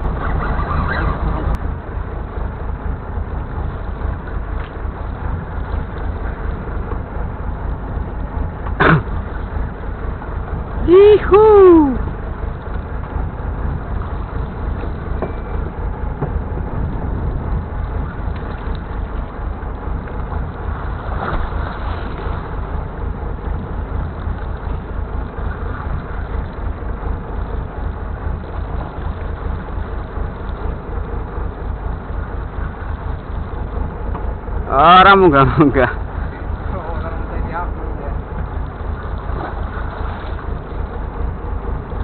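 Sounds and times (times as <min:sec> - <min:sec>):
low rumble: 0:00.0 - 0:42.0.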